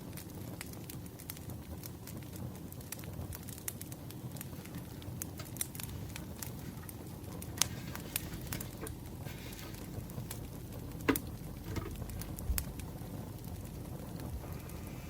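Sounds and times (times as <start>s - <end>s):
campfire burning wood rumble: 0.0s - 15.0s
fire pops and snaps: 0.0s - 15.0s.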